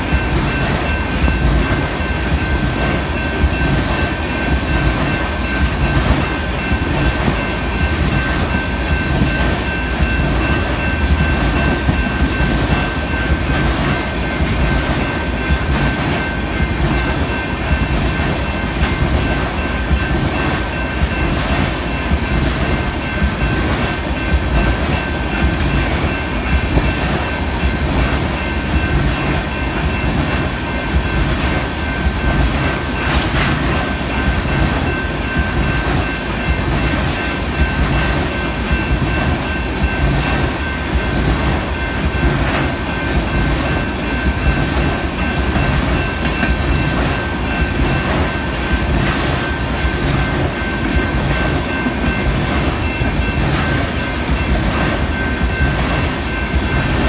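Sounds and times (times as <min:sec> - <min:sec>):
railroad cars rolling past: 0:00.0 - 0:57.0.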